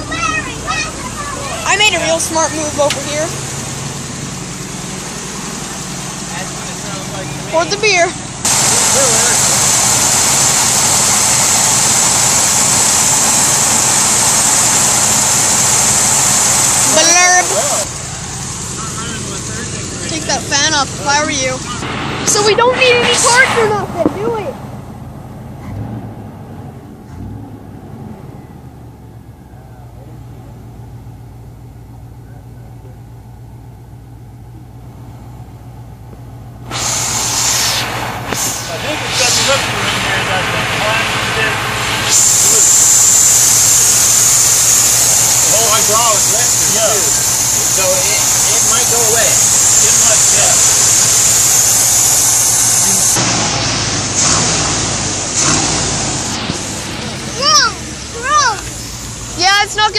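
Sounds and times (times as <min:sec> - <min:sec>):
loud rushing noise: 0:00.0 - 0:24.9, 0:36.6 - 0:59.9
diesel truck engine idling: 0:00.0 - 0:59.9.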